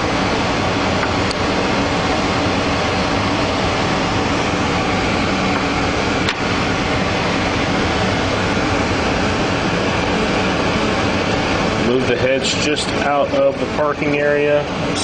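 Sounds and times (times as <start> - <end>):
steady loud hiss: 0.0 - 15.0.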